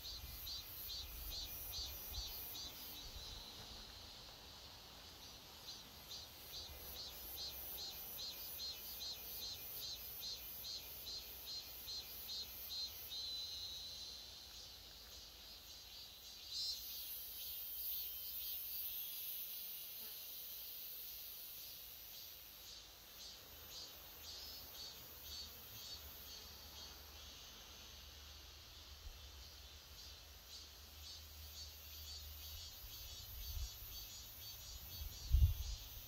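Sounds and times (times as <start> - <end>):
insects chirping: 0.0 - 36.0.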